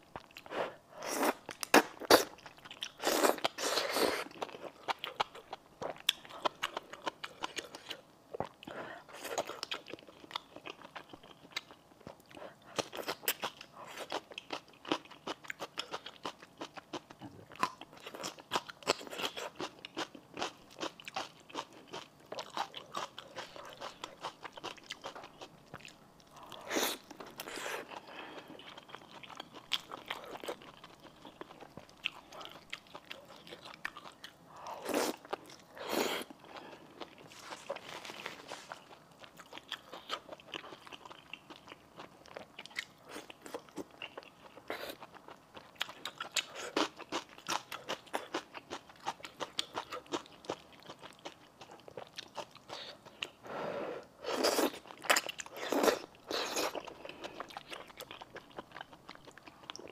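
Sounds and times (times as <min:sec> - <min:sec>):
wet chewing and crunching: 0:01.2 - 0:53.4, 0:54.3 - 0:59.9.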